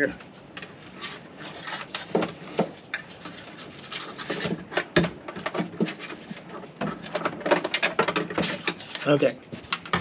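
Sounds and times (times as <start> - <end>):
rubbing and scraping of parts: 0.1 - 10.0.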